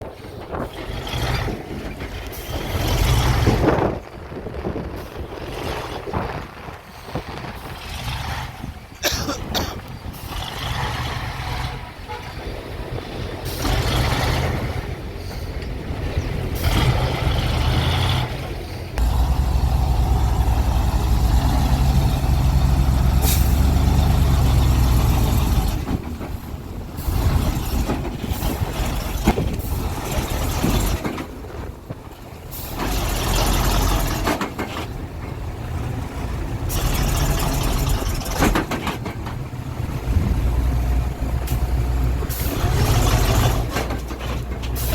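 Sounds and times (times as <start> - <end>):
heavy diesel engines working: 0.0 - 44.9.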